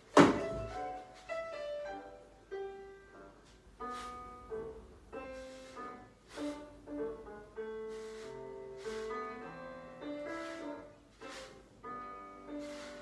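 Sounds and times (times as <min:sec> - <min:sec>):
classical piano music: 0:00.0 - 0:13.0.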